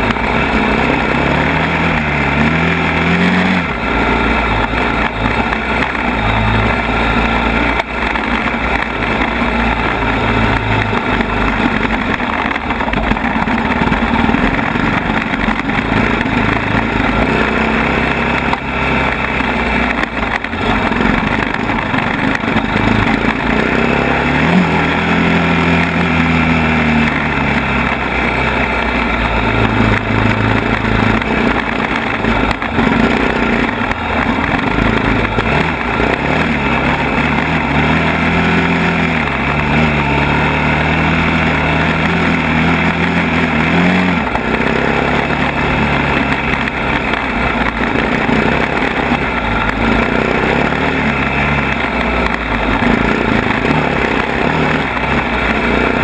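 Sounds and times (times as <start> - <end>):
atv engine revving: 0.0 - 56.0
atv engine running: 0.0 - 56.0.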